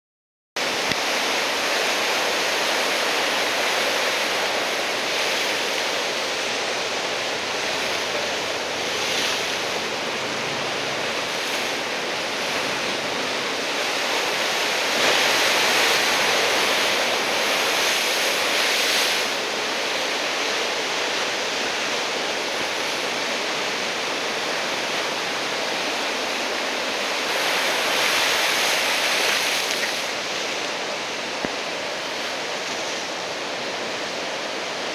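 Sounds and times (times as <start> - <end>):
ocean waves breaking: 0.6 - 34.9.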